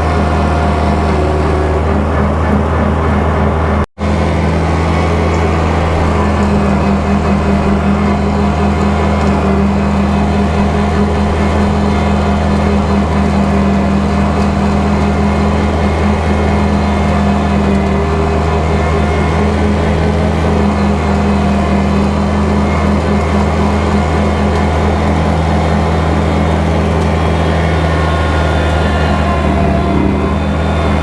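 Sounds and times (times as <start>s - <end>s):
tractor diesel engine droning: 0.0s - 31.0s.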